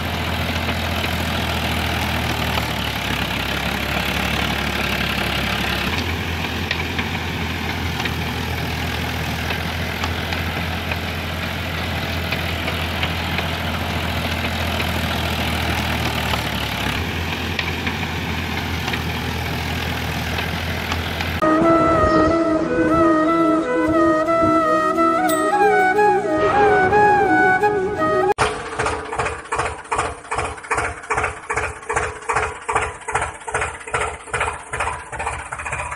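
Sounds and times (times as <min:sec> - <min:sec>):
engine idling with knocking beat: 0:00.0 - 0:21.5, 0:28.4 - 0:35.9.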